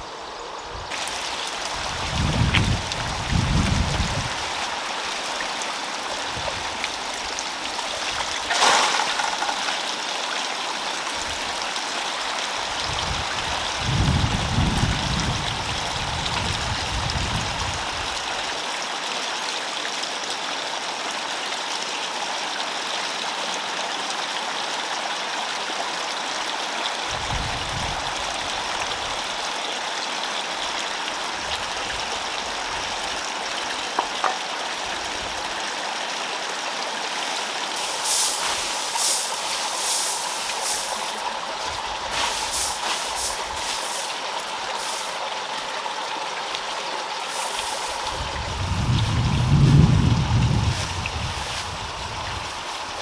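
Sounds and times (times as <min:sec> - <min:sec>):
running water: 0:00.7 - 0:21.7, 0:22.9 - 0:53.0.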